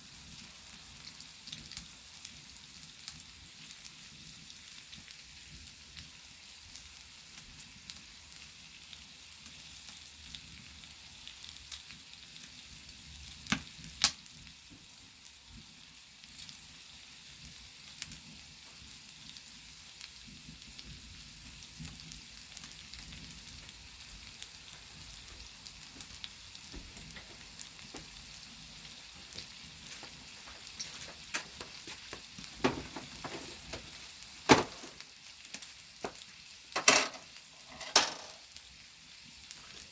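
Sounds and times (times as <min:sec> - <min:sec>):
meat sizzling on hot stone: 0:00.0 - 0:39.9.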